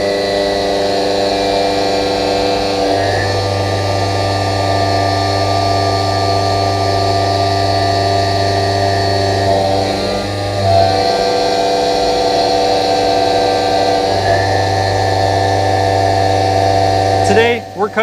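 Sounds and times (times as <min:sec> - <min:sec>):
milling machine cutting steel: 0:00.0 - 0:18.0.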